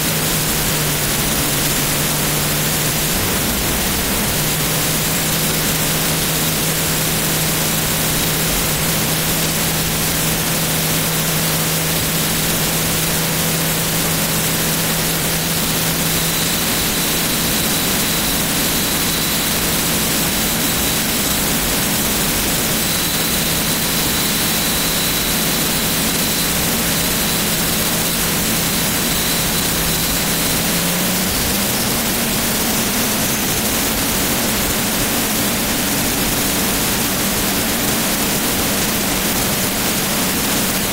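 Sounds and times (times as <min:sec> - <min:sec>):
jet engines running: 0:00.0 - 0:40.9
low steady hum: 0:00.0 - 0:40.9.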